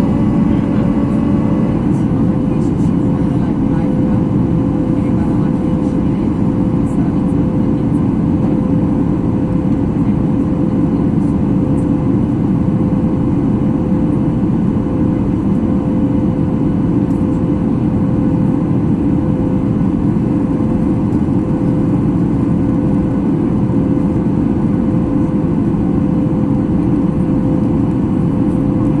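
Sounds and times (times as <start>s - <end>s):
jet engine cabin rush: 0.0s - 29.0s
steady cabin hum: 0.0s - 29.0s.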